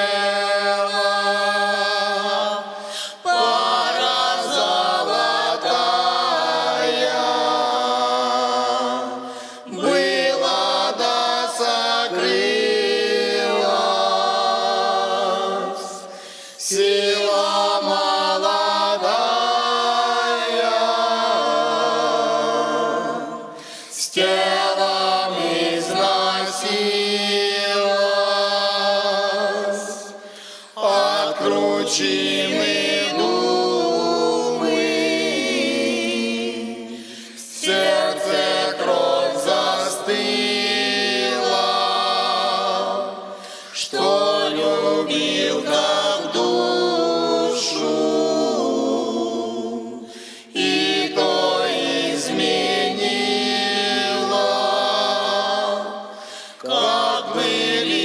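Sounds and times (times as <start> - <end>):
folk choir singing: 0.0 - 58.0.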